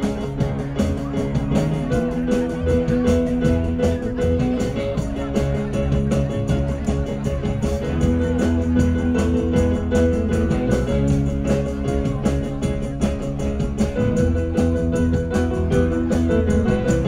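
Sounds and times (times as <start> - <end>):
bass: 0.0 - 17.0
drums keeping a steady beat: 0.0 - 17.0
guitar: 0.0 - 17.0.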